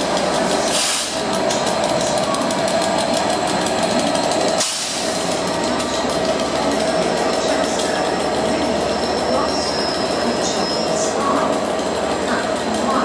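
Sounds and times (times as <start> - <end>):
diesel locomotive engine clatter: 0.0 - 13.0.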